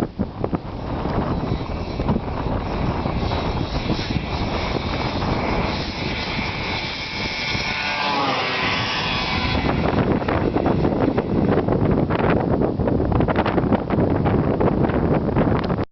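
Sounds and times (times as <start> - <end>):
snowmobile engine running hard: 0.0 - 15.5.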